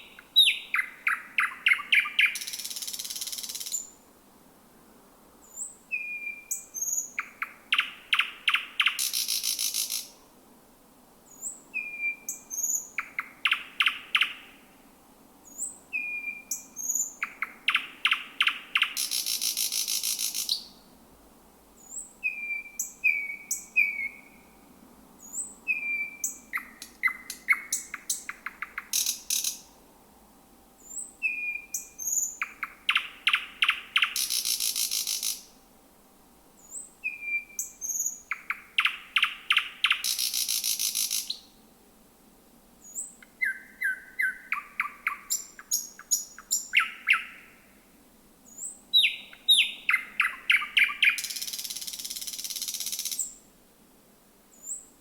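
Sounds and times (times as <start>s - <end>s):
nightingale singing: 0.0s - 4.0s, 5.4s - 10.2s, 11.3s - 14.6s, 15.4s - 20.8s, 21.8s - 24.6s, 25.2s - 29.7s, 30.8s - 35.6s, 36.6s - 41.6s, 42.8s - 47.7s, 48.4s - 53.5s, 54.5s - 55.0s.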